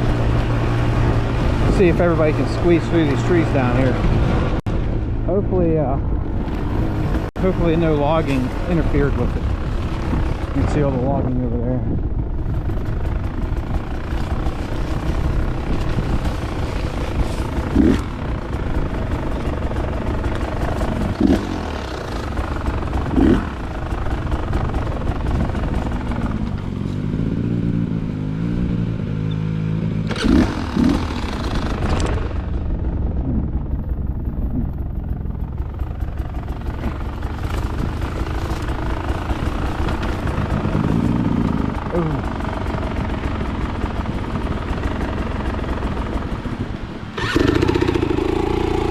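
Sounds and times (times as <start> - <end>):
dirt bike engine revving: 0.0 - 4.6, 6.3 - 11.3, 12.6 - 33.6, 35.6 - 48.9.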